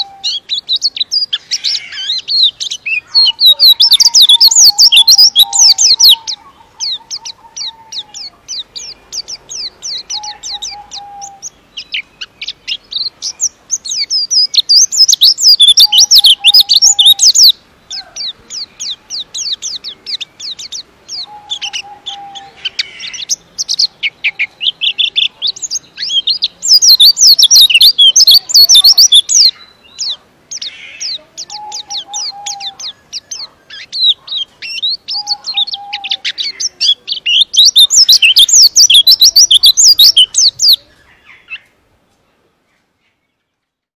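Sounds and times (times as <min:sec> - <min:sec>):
bird twittering song: 0:00.0 - 0:41.8.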